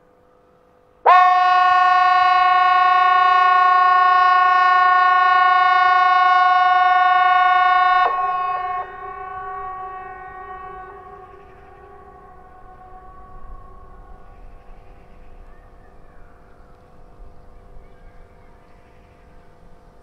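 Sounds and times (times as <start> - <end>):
steady warning horn tone: 0.0 - 19.5.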